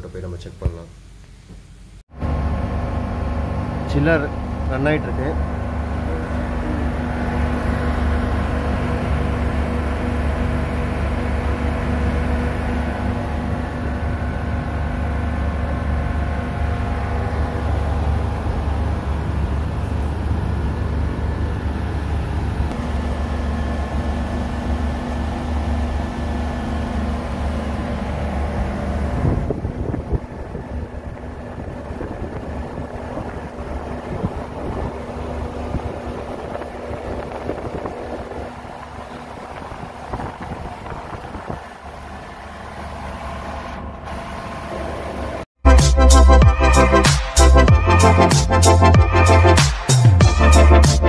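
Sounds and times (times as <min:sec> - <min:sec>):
refrigeration unit humming: 0:00.0 - 0:45.5.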